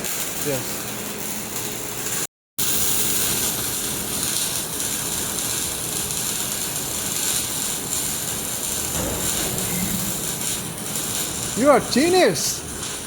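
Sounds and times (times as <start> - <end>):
laser welder hissing and crackling: 0.0 - 13.0.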